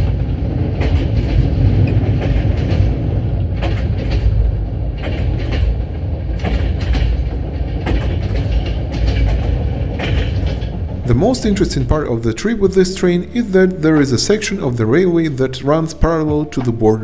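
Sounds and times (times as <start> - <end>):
railway carriage rumble: 0.0 - 17.0
train wheels clacking on rail joints: 0.0 - 17.0.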